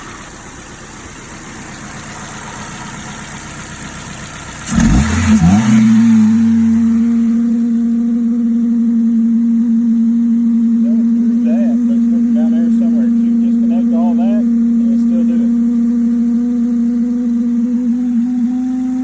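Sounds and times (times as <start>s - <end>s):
car engine running: 0.0s - 19.0s
strong steady hum: 0.0s - 19.0s.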